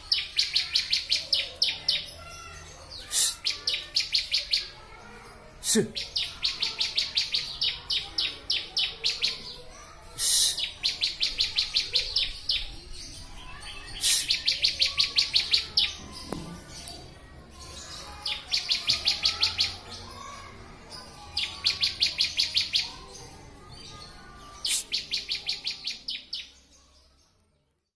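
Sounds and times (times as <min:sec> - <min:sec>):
bird singing high chirps: 0:00.0 - 0:04.9, 0:05.9 - 0:27.2.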